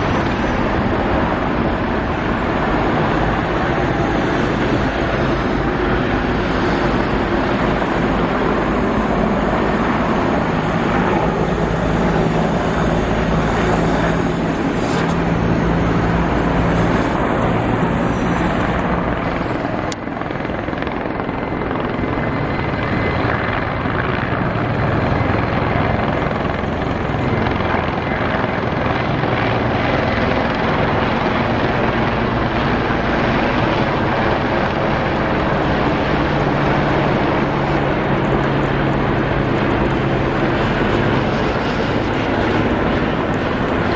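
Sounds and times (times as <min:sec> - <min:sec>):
helicopter flying overhead: 0:00.0 - 0:43.9.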